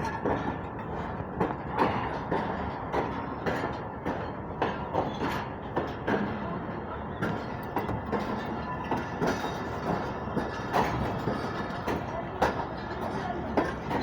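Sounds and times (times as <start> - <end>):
train coaches rumbling on track: 0.0 - 14.0
wheels and couplings clanking: 0.0 - 14.0.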